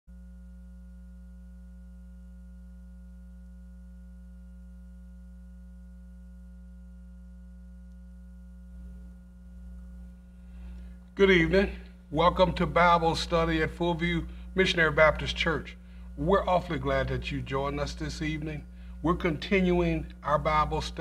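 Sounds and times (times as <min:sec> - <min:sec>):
electrical hum: 0:00.1 - 0:21.0
faint low noise: 0:00.1 - 0:21.0.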